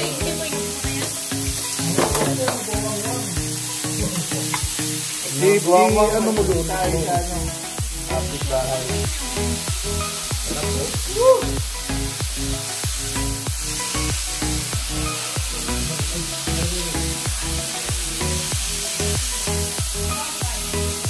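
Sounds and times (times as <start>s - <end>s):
background music with steady beat: 0.0s - 21.0s
beef sizzling on grill pan: 0.0s - 21.0s.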